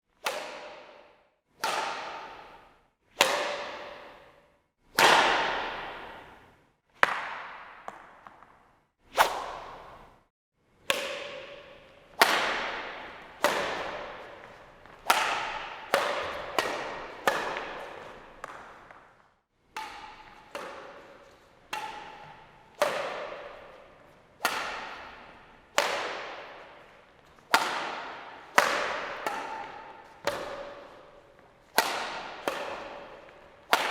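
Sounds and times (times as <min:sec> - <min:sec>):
racket striking shuttlecock: 0:00.2 - 0:10.2, 0:10.8 - 0:33.9.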